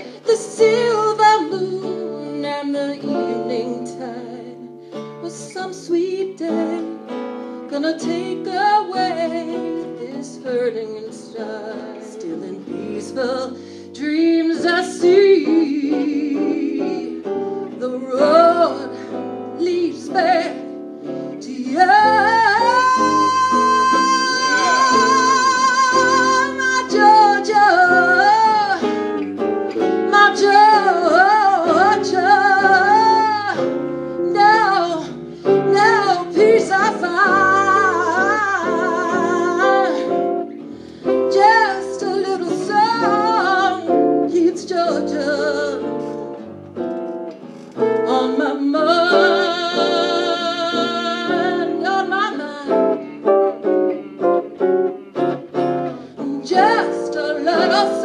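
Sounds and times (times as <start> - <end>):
woman singing: 0.0 - 46.8, 47.8 - 58.0
guitar accompaniment: 0.0 - 58.0.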